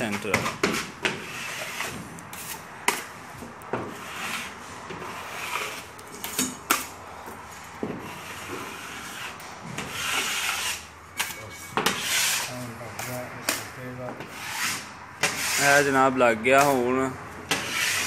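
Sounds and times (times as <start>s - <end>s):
drywall knife scraping compound: 0.0s - 6.9s, 7.9s - 16.0s, 17.5s - 18.0s.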